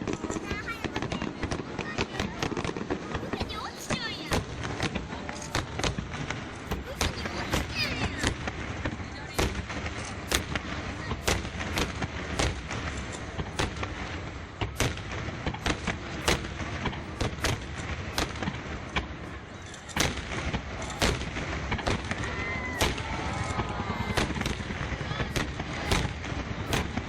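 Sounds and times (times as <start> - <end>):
fireworks sharp bangs: 0.0 - 27.0.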